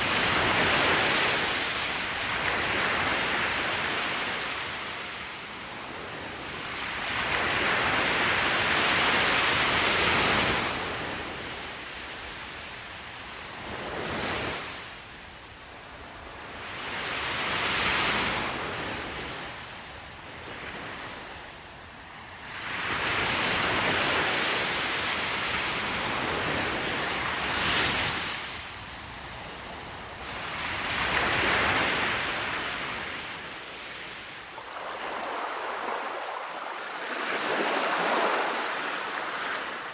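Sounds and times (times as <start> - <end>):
waves breaking on sand: 0.0 - 15.1, 22.2 - 39.9.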